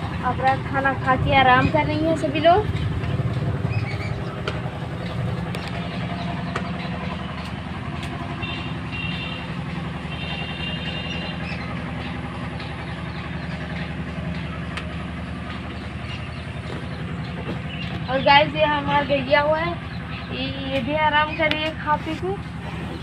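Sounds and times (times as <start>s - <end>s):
engine droning steadily: 0.0s - 23.0s.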